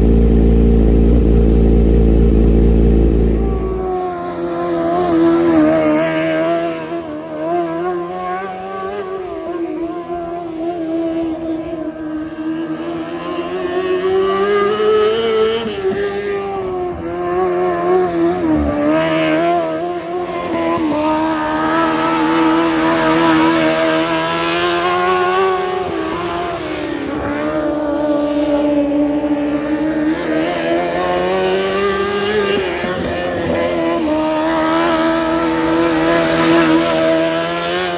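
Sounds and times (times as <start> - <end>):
race car engine at high revs: 0.0 - 37.9.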